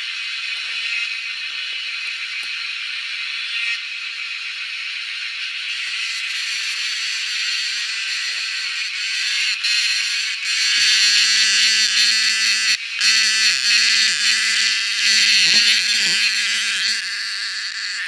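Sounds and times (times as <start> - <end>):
cicadas chorus: 0.0 - 18.0.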